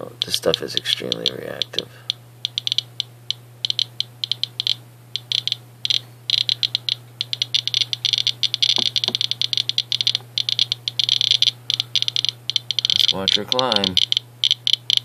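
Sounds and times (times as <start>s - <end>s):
geiger counter clicking: 0.0s - 15.0s.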